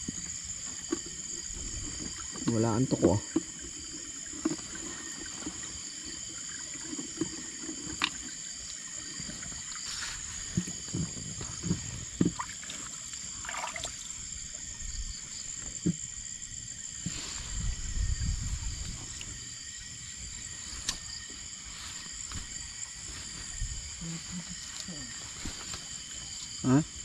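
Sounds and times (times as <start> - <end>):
water sloshing and splashing: 0.0 - 24.0
night insects chirring: 0.0 - 27.0.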